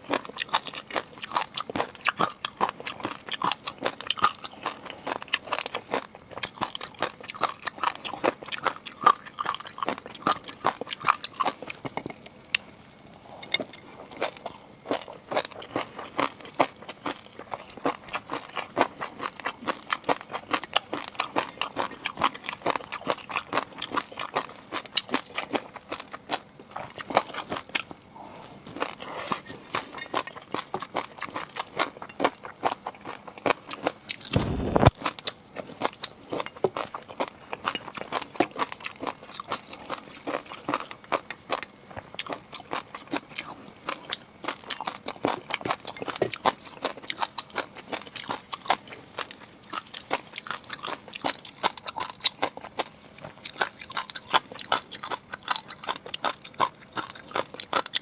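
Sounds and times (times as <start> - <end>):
crunchy chewing and biting: 0.0 - 58.0.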